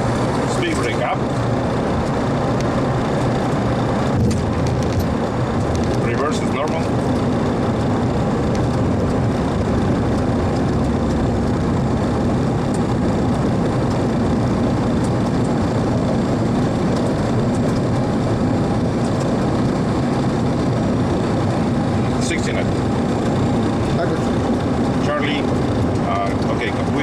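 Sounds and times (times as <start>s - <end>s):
air rushing through cockpit: 0.0s - 27.0s
aircraft engines idling drone: 0.0s - 27.0s
low hum: 0.0s - 27.0s.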